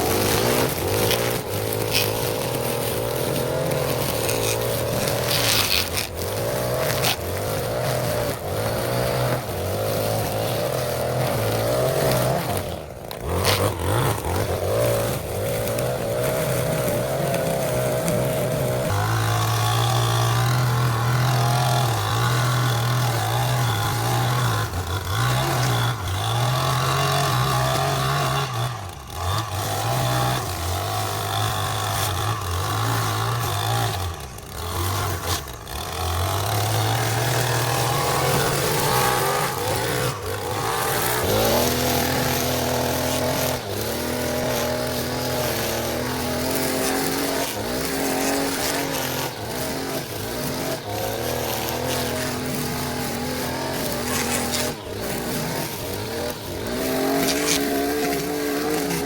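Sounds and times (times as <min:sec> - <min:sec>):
lawn mower engine cutting grass: 0:00.0 - 0:59.0.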